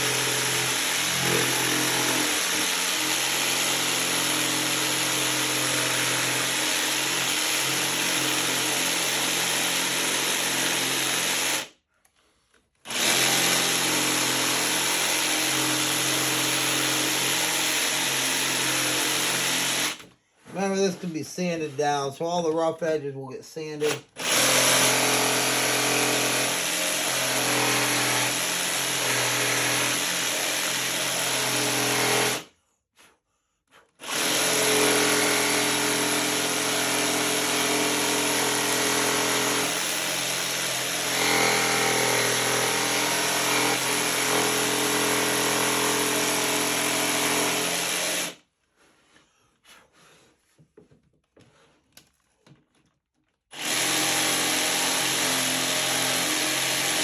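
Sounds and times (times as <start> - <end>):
jigsaw cutting wood: 0.0 - 11.8, 12.8 - 20.9, 23.8 - 32.5, 33.8 - 48.4, 53.5 - 57.0.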